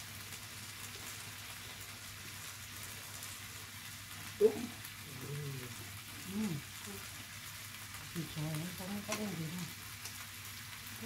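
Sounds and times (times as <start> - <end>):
food sizzling and broth simmering: 0.0 - 11.0.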